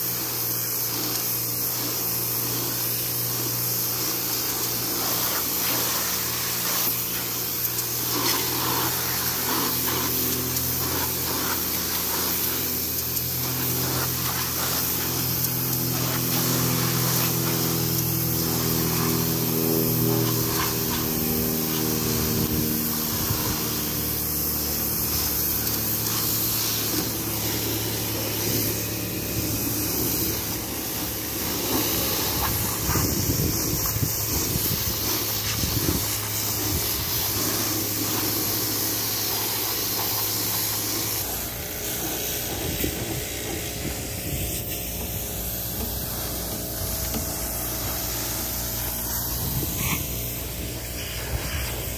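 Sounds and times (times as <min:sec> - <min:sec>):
pressure washer motor hum: 0:00.0 - 0:51.9
pressure washer water spray hissing: 0:00.0 - 0:51.9.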